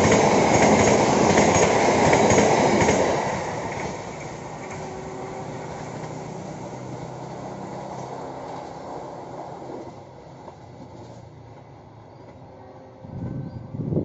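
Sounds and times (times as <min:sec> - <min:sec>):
train wheel and rail rumble: 0:00.0 - 0:14.0.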